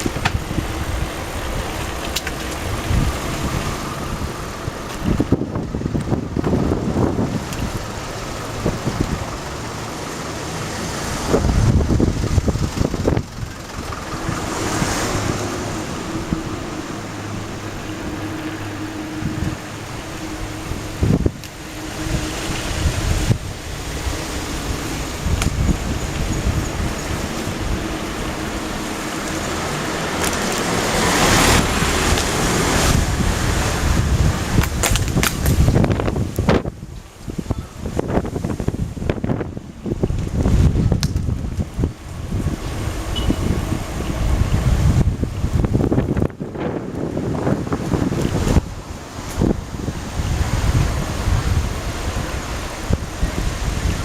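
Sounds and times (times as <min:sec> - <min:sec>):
steady rushing background noise: 0:00.0 - 0:54.0
wind gusts buffeting microphone: 0:00.0 - 0:54.0.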